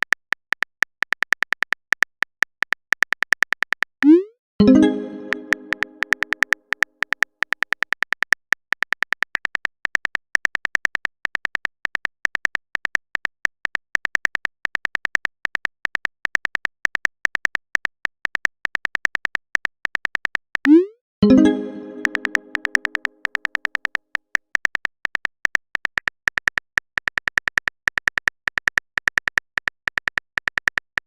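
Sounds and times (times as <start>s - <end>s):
keyboard typing clicks: 0.1s - 31.0s.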